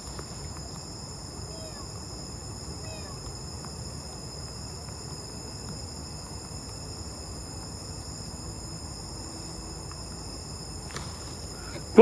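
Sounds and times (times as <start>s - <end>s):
night insects droning: 0.0s - 12.0s.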